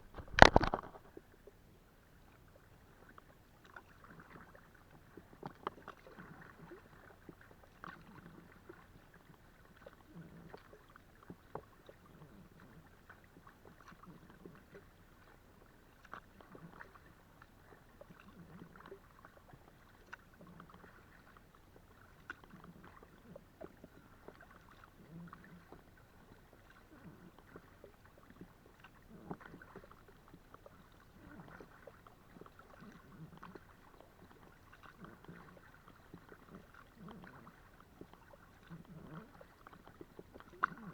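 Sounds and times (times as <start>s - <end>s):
paddle splashing in water: 0.0s - 1.4s, 3.6s - 40.9s.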